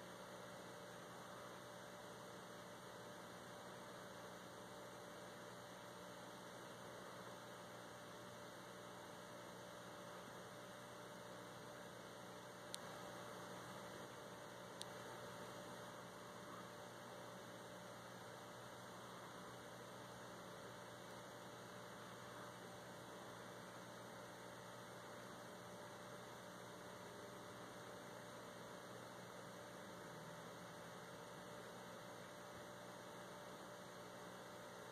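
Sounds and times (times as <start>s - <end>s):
faint electrical hum: 0.0s - 34.9s.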